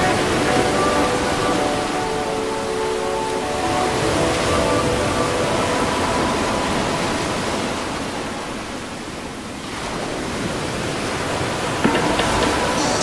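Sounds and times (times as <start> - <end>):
sea surf washing in: 0.0 - 13.0.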